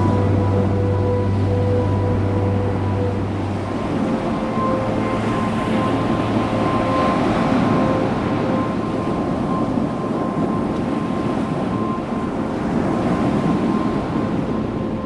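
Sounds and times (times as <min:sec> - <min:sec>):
faint steady tones: 0:00.0 - 0:15.0
ocean surf: 0:00.0 - 0:15.0
wind on microphone: 0:00.0 - 0:15.0.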